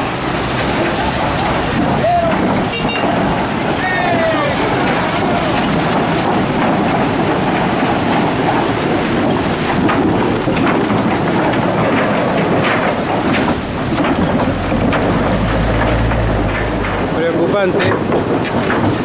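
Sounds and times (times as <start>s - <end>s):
planks clattering under tyres: 0.0s - 19.0s
running engines: 0.0s - 19.0s.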